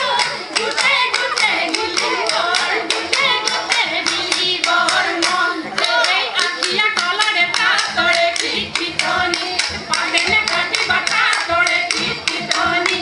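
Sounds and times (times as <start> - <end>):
rhythmic hand clapping: 0.0 - 13.0
women singing in unison: 0.0 - 13.0.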